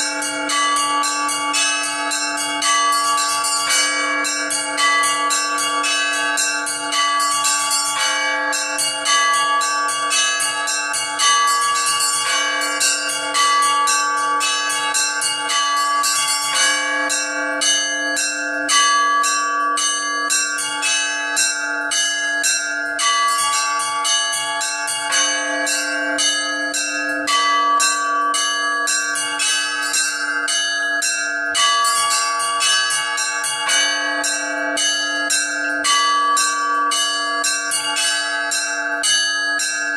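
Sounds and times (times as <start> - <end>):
low church bell ringing: 0.0 - 39.9
small bells striking quickly: 0.0 - 39.9.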